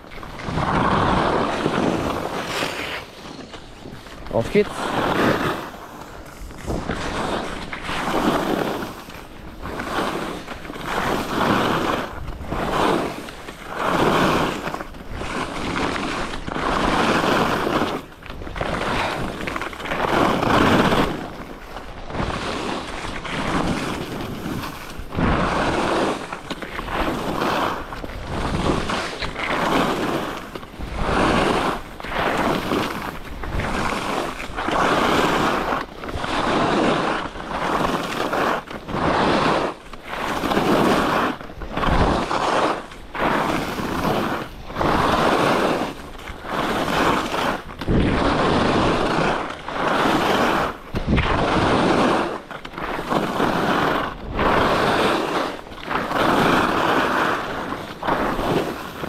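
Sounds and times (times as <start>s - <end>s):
skis scraping across snow: 0.0s - 59.0s
wind noise on microphone: 0.0s - 59.0s.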